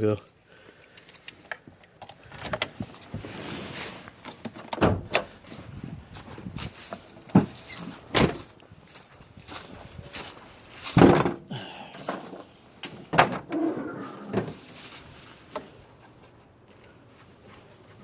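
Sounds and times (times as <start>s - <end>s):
rustling: 2.2s - 11.6s, 12.2s - 18.0s.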